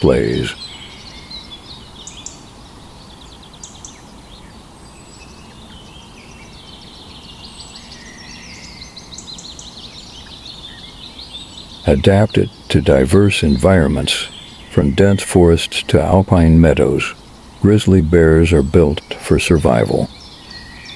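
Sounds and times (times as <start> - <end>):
low background hiss: 0.0 - 20.9
small birds chirping and trilling: 0.0 - 20.9.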